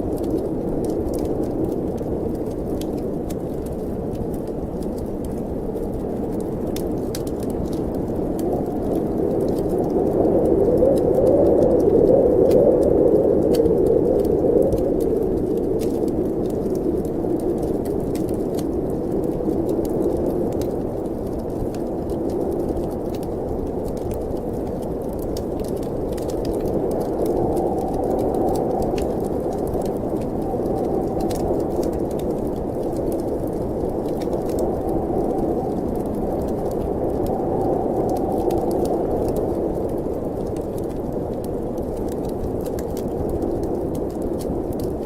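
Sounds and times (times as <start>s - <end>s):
snowstorm wind moaning: 0.0s - 45.0s
wood fire crackling: 0.0s - 45.0s.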